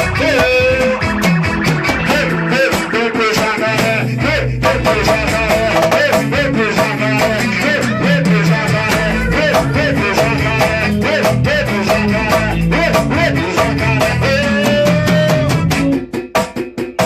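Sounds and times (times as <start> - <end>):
band playing instrumental: 0.0 - 17.0.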